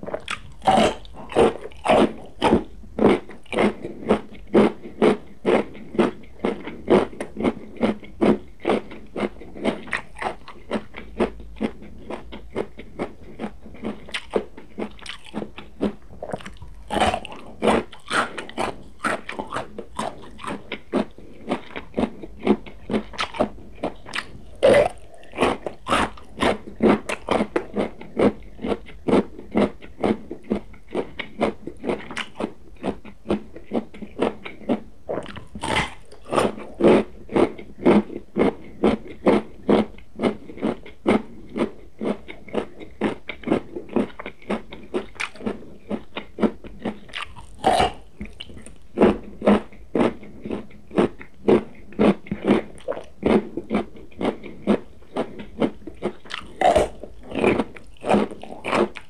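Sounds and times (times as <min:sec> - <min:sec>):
crunchy chewing of carrot: 0:00.0 - 0:59.0.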